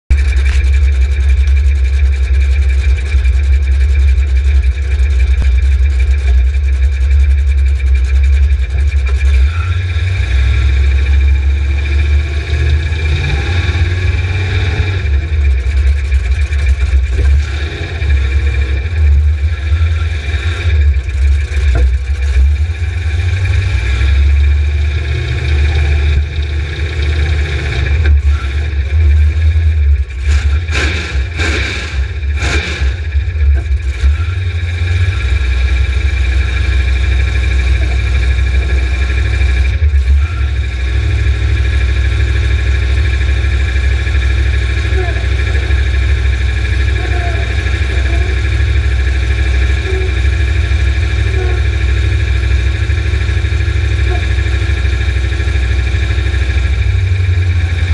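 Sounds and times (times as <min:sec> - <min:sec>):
vehicle engine idling: 0:00.1 - 0:57.9.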